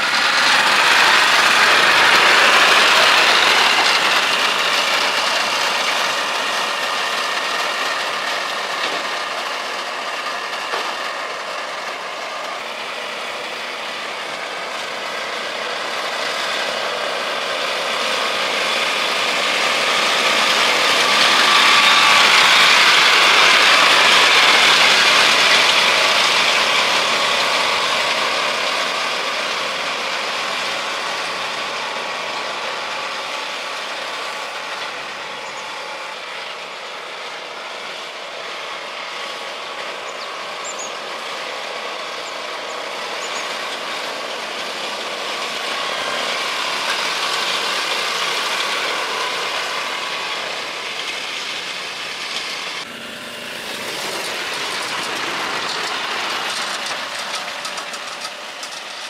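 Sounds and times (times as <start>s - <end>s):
rushing vehicle noise: 0.0s - 59.0s.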